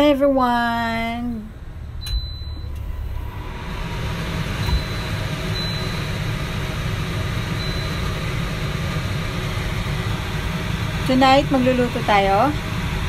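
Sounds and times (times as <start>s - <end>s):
low mechanical rumble: 0.0s - 13.0s.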